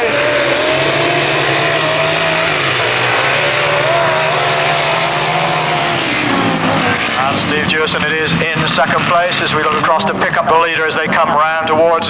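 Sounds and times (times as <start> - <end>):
racing engines droning: 0.0 - 12.0.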